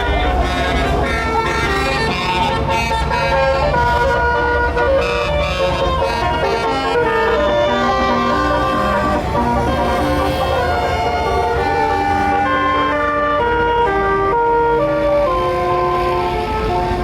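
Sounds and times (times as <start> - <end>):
bus horn playing a melody: 0.0 - 17.0.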